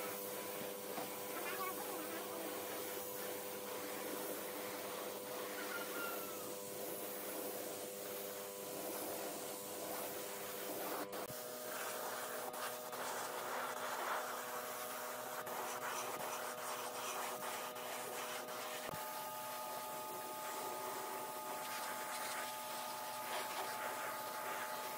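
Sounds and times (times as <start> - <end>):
spray gun hissing: 0.0 - 24.9.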